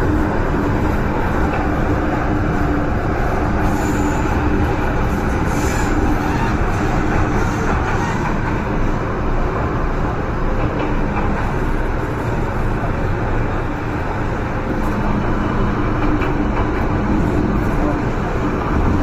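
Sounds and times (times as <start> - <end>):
steady train hum: 0.0 - 19.0
train wheels rumbling on rails: 0.0 - 19.0.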